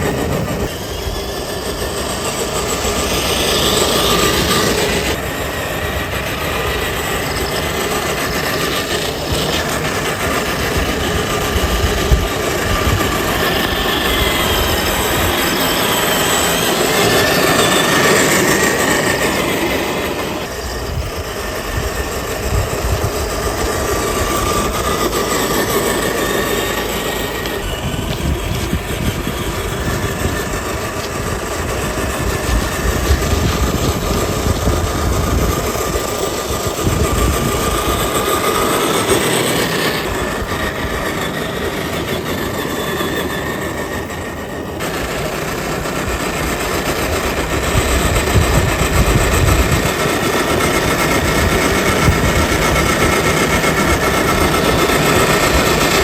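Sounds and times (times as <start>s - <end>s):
electric motor and gearbox whining: 0.0s - 56.0s
rough rumble of tyres: 0.0s - 56.0s.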